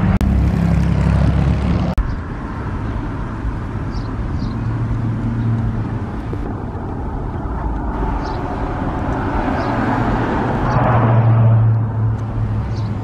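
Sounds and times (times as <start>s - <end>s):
cars rolling slowly: 0.0s - 13.0s.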